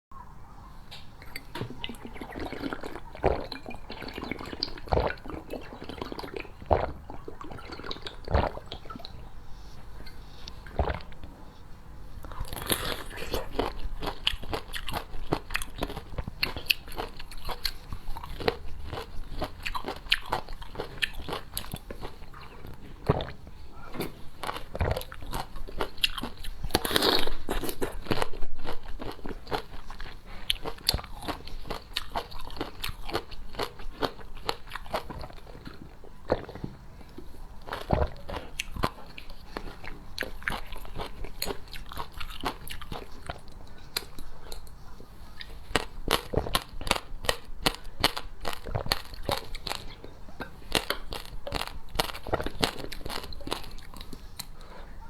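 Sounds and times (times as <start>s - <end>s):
chewing with wet crunches: 0.9s - 55.0s.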